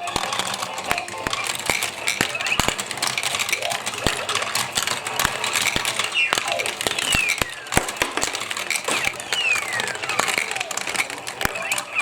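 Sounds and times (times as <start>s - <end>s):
marbles clattering on plastic: 0.0s - 12.0s
marbles rolling with falling whines: 0.0s - 12.0s.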